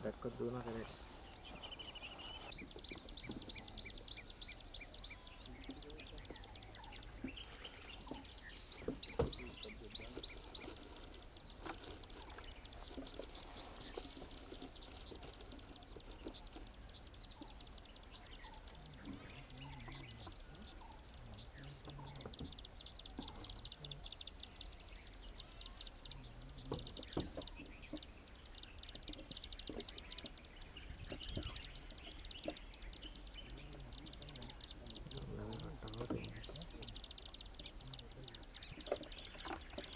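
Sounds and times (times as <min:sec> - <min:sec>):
bird chirps and calls: 0:00.0 - 0:39.9.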